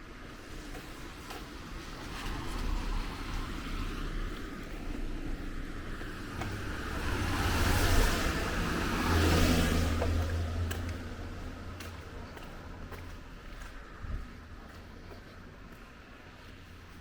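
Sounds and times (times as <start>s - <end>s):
car passing on wet road: 0.1s - 17.0s.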